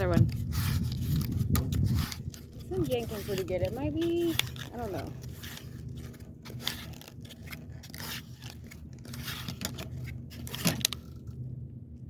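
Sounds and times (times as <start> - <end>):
fishing line scraping and rustling: 0.0 - 11.4
steady low hum: 0.0 - 12.0.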